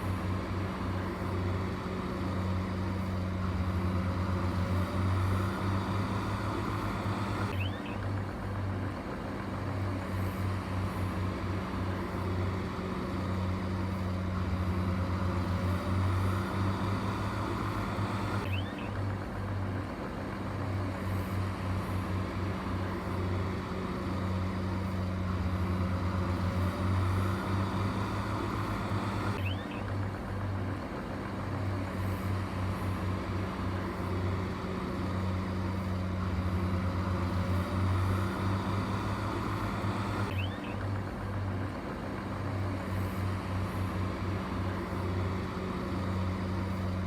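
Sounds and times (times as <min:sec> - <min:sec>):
heavy machine engine humming: 0:00.0 - 0:47.0.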